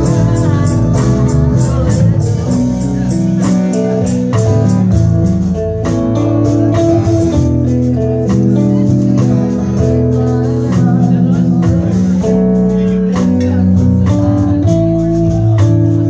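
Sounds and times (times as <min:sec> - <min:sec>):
amplified guitars: 0:00.0 - 0:16.0
bass guitar: 0:00.0 - 0:16.0
drum kit steady beat: 0:00.0 - 0:16.0.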